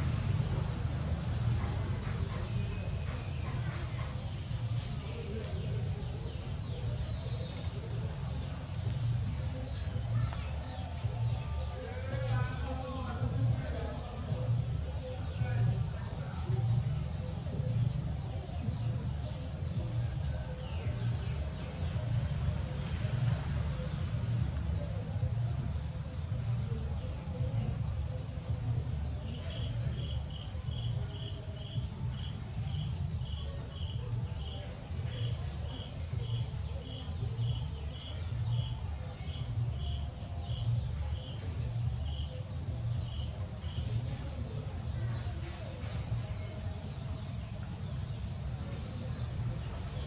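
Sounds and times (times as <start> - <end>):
insects buzzing and chirping: 0.0 - 50.0
lower insect chirp: 0.0 - 50.0.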